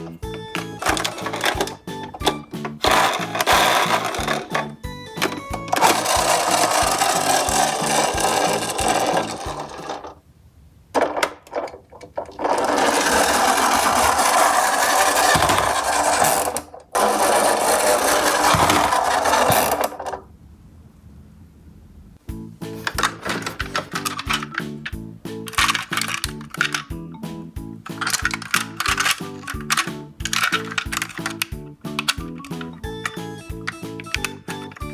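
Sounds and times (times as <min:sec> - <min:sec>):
toy truck wheels rolling and rattling: 0:00.0 - 0:10.2, 0:11.0 - 0:20.2, 0:22.8 - 0:27.0, 0:27.8 - 0:34.9.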